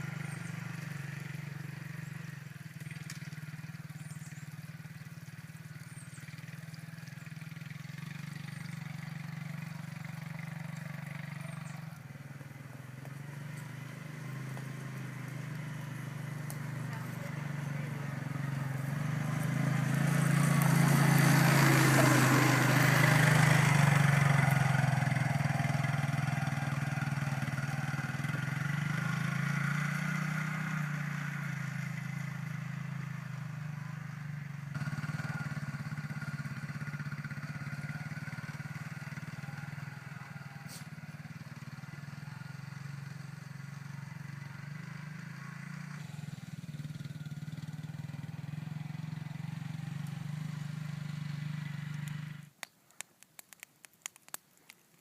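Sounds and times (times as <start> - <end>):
atv engine running: 0.0 - 52.6.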